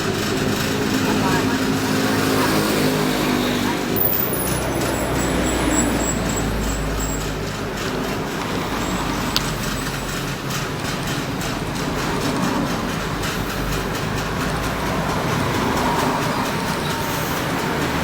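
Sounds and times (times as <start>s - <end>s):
diesel engine rumble: 0.0s - 18.0s.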